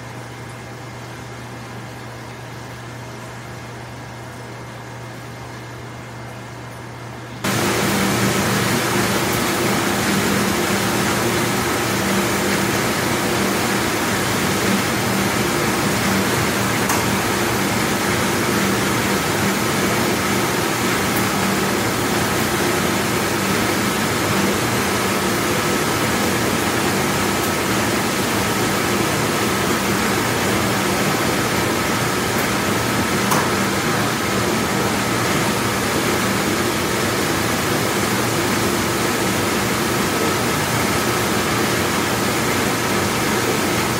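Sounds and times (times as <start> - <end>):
dishwashing machine running: 0.0 - 43.9.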